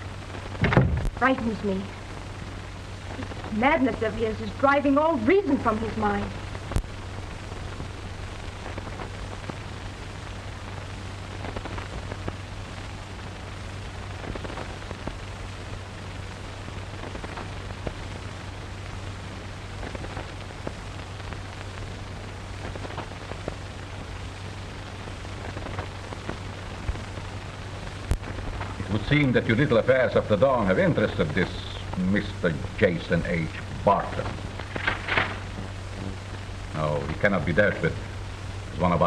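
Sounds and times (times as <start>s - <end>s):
crackles and pops: 0.0s - 39.0s
film soundtrack hiss: 0.0s - 39.0s
low hum: 0.0s - 39.0s.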